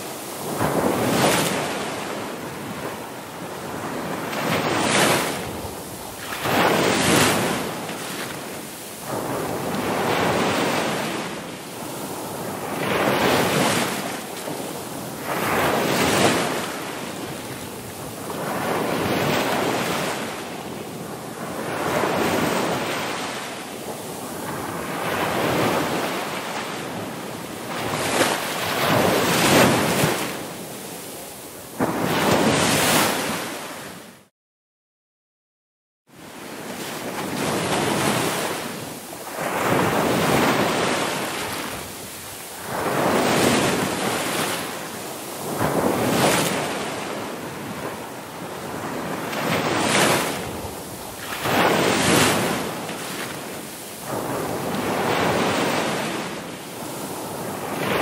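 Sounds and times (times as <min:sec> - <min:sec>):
ocean waves breaking: 0:00.0 - 0:34.2, 0:36.2 - 0:58.0.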